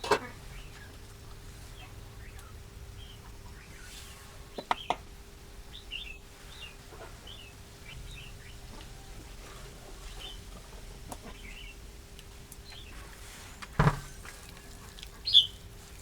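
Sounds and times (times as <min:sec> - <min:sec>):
faint steady hum: 0:00.0 - 0:16.0
small birds chirping: 0:00.0 - 0:16.0.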